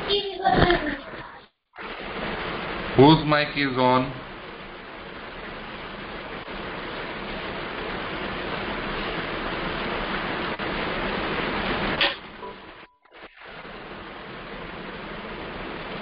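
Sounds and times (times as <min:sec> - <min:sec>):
microphone background hiss: 0:00.0 - 0:16.0.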